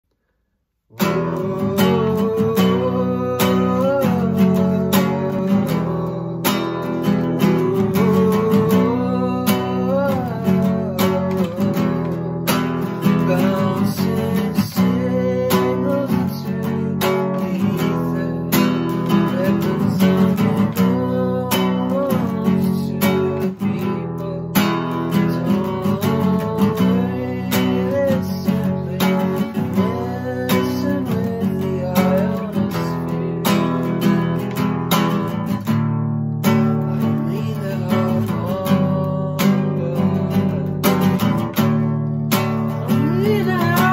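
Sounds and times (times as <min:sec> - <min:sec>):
man singing softly: 0:00.9 - 0:35.6, 0:36.4 - 0:43.9
acoustic guitar strumming: 0:00.9 - 0:43.9.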